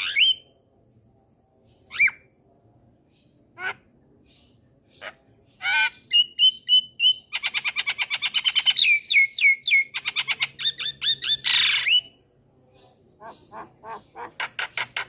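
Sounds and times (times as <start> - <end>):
bird singing varied song: 0.0 - 15.0.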